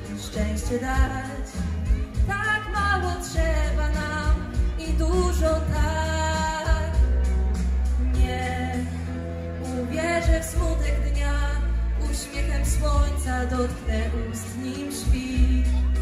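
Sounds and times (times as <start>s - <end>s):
backing track with heavy bass: 0.0s - 16.0s.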